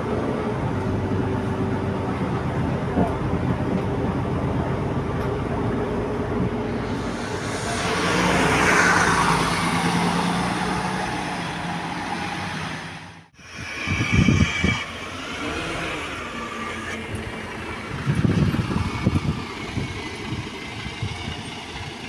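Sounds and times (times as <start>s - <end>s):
bus engine drone inside cabin: 0.0s - 22.0s
bus pulling away: 0.0s - 22.0s.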